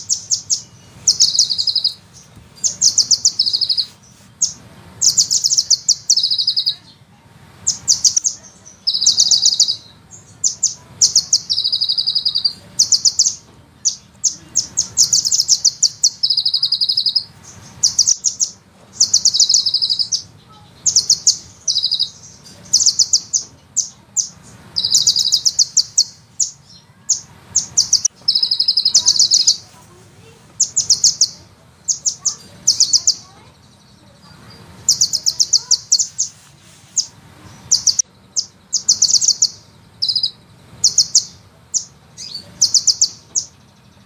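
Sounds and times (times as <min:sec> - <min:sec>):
sunbird trilling song: 0:00.0 - 0:44.0.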